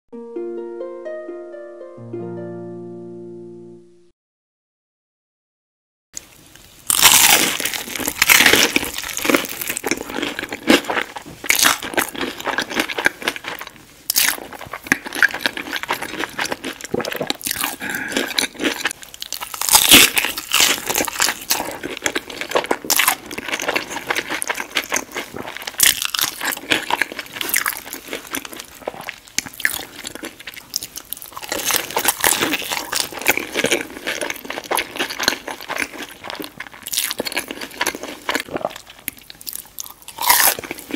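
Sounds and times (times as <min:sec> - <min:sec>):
crunchy chewing of fried fish: 0:06.2 - 0:40.9.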